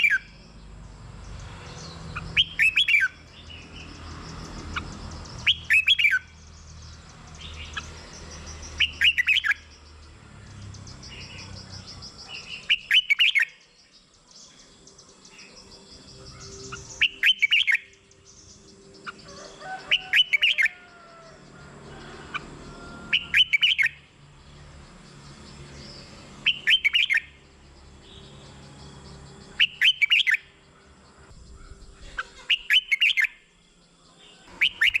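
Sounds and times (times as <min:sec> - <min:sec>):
bird singing loud phrases: 0:00.0 - 0:35.0
quiet bird chirping: 0:00.0 - 0:35.0.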